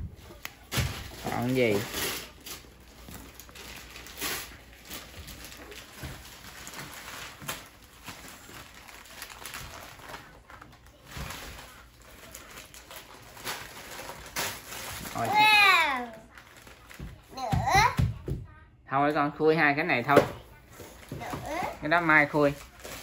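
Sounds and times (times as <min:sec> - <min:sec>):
wrapping paper crinkling and tearing: 0:00.2 - 0:17.3, 0:20.8 - 0:23.0.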